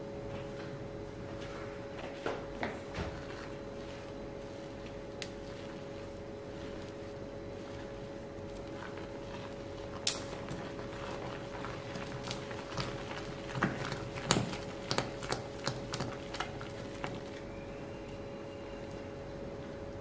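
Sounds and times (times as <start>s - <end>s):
steady hum: 0.0s - 20.0s
ladle stirring batter: 2.4s - 19.1s.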